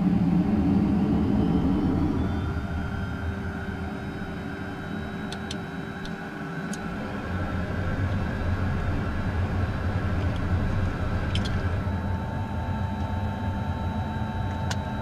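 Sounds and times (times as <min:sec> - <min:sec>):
jet cockpit rumble and whine: 0:00.0 - 0:15.0.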